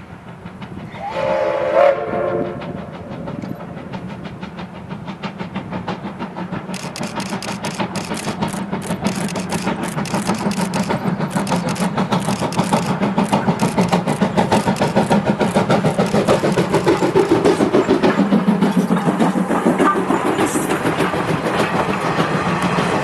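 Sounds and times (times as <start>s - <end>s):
steam train exhaust beating: 0.0s - 23.0s.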